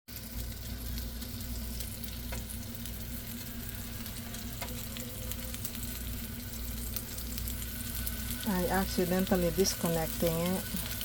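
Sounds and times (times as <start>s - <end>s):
low steady hum: 0.1s - 11.0s
meatballs sizzling in a pan: 0.1s - 11.0s.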